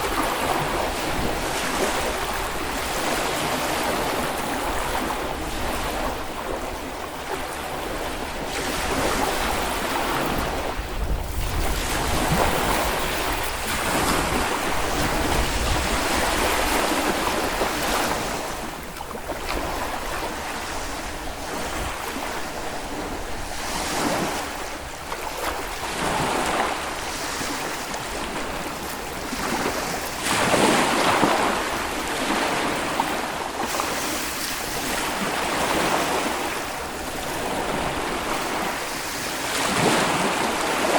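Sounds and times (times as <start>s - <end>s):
small waves washing onto sand: 0.0s - 40.9s
wind buffeting microphone: 0.0s - 40.9s.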